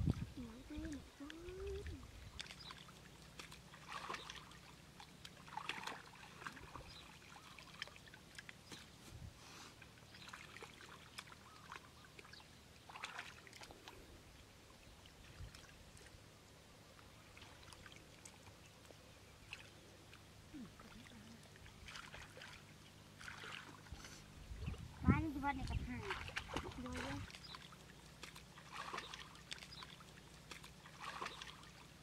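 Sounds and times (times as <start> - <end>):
splashing shallow water: 0.0 - 32.0.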